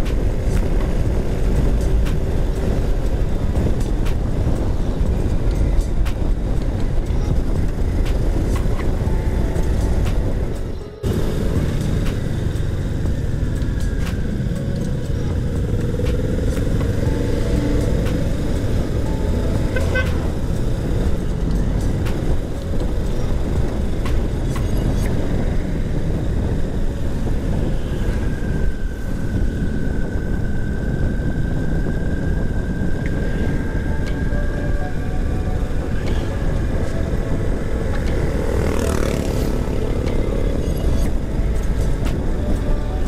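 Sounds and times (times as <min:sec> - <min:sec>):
motorcycle engine running: 0:00.0 - 0:28.4, 0:35.4 - 0:43.0.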